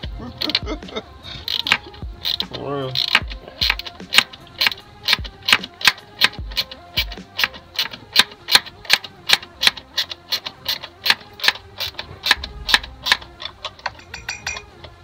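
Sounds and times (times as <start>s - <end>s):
mechanical ticking: 0.0s - 15.0s.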